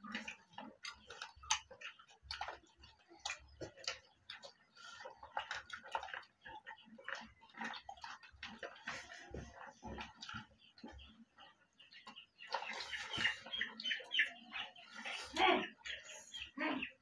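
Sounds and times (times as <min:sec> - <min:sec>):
people chewing food: 0:00.0 - 0:17.0.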